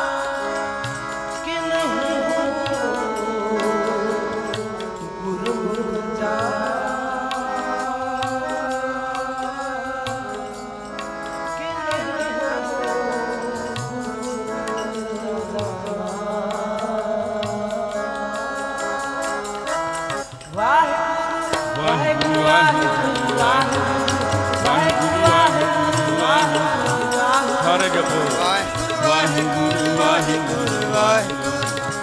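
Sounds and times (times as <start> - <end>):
harmonium chords: 0.0 - 32.0
tabla drumming: 0.0 - 32.0.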